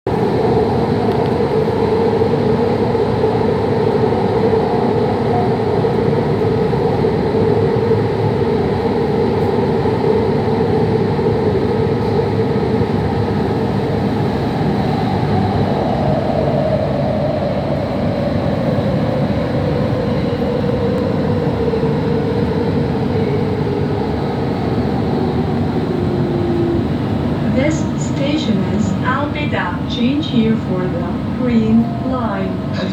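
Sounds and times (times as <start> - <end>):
metro train rumble and whine: 0.0 - 32.9.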